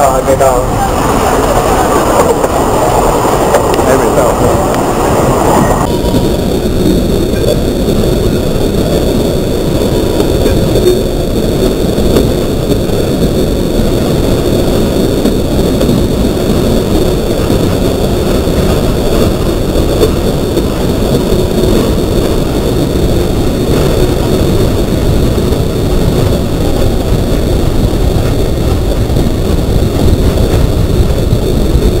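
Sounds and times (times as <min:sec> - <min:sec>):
train running: 0:00.0 - 0:32.0.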